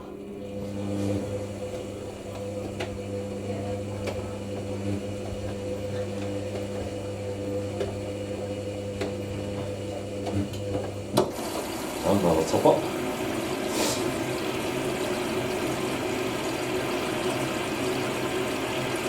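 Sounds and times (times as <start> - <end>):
washing machine drum humming: 0.0 - 19.0.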